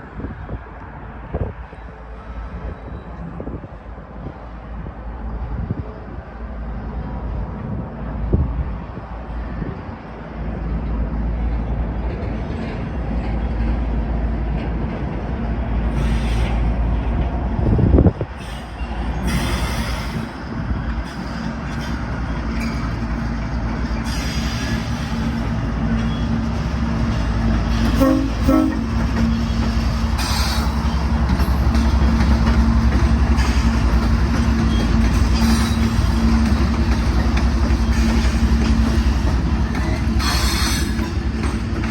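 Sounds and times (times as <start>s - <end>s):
freight train diesel locomotives rumbling: 0.0s - 41.9s.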